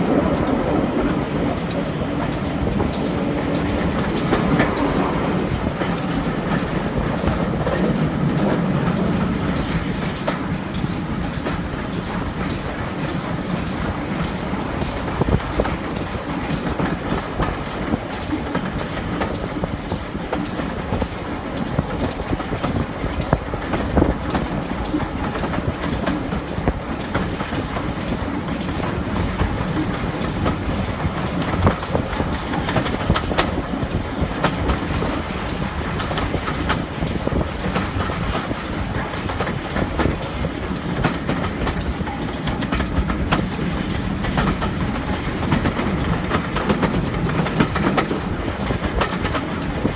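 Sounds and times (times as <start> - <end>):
steam train rumble: 0.0 - 49.9
wheels clicking over rail joints: 0.0 - 49.9.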